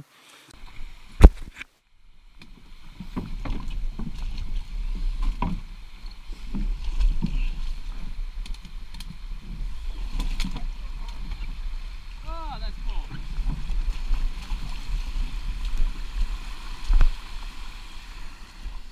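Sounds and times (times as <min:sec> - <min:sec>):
branches scraping canoe hull: 0:00.1 - 0:18.9.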